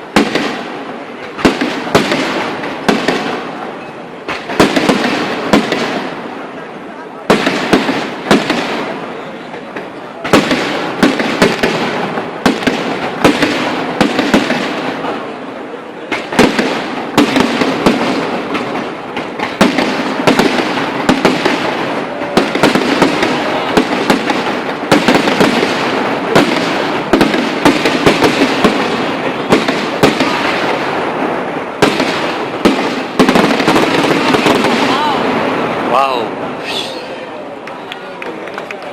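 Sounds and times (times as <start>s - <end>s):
fireworks bangs: 0.0s - 38.9s
fireworks crackle: 0.0s - 38.9s.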